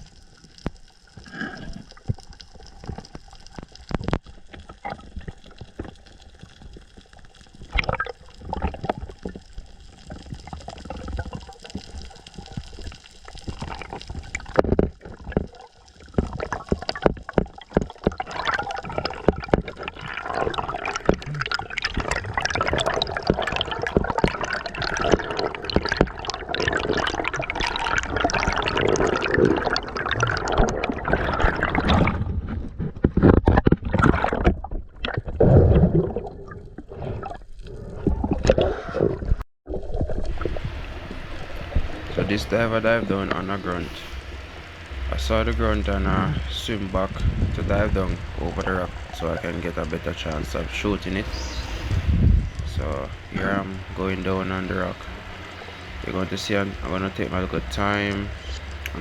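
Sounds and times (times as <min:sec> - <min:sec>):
water sloshing and bubbling: 0:00.0 - 0:59.0.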